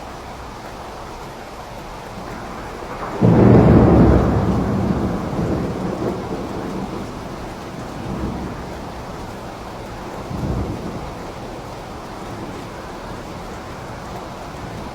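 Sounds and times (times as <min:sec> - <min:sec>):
steady rain: 0:00.0 - 0:14.9
thunder clap and rumble: 0:02.1 - 0:14.9.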